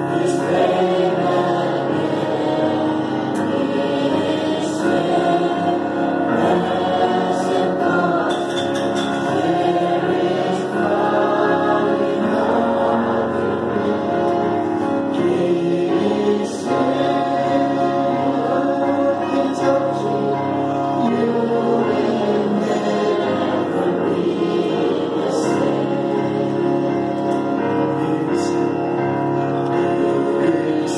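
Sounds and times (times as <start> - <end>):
congregation singing a hymn: 0.0 - 30.9.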